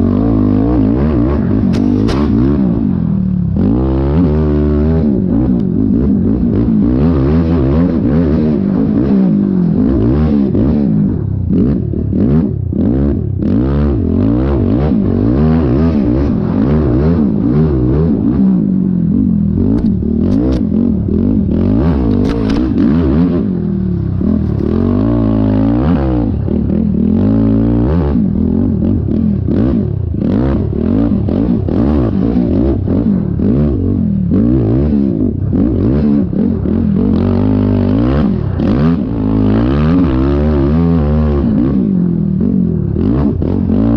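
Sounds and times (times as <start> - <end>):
quad engine revving: 0.0 - 43.9.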